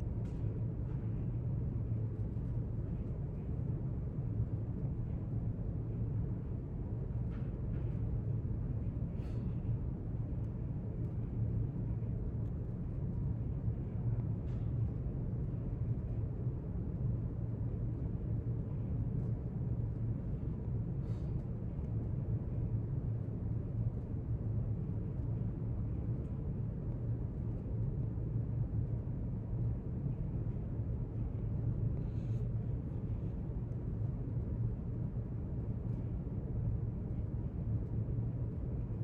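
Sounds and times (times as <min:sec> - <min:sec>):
low room rumble: 0:00.0 - 0:39.0.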